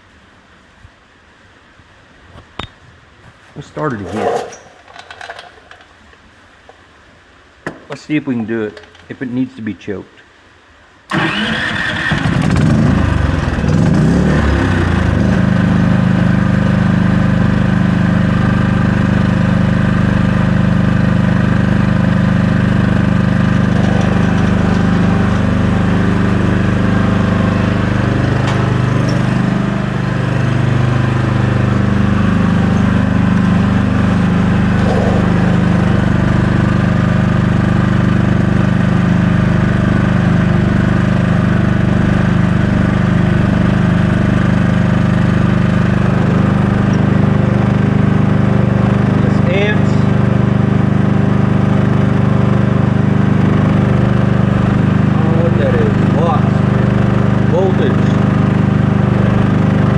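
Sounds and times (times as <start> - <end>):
generator engine running: 3.8 - 5.9, 11.1 - 59.9.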